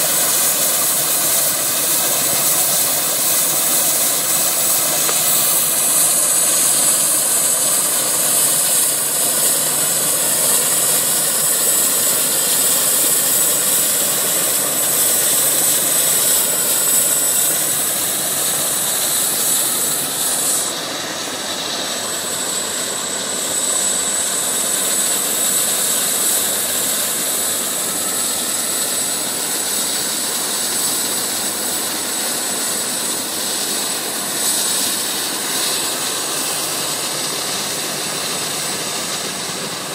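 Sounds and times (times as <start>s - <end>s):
helicopter turbine and rotor running: 0.0s - 39.9s.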